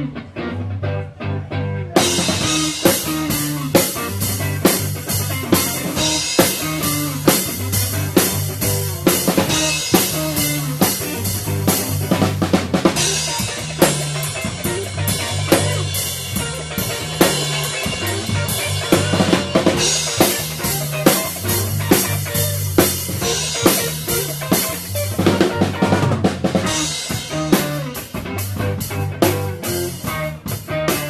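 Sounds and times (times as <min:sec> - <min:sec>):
band playing live: 0:00.0 - 0:31.0
low bass notes: 0:00.0 - 0:31.0.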